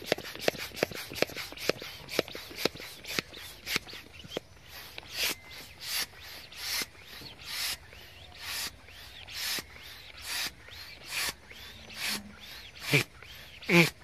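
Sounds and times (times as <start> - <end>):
balloon pump hissing: 0.0 - 14.0.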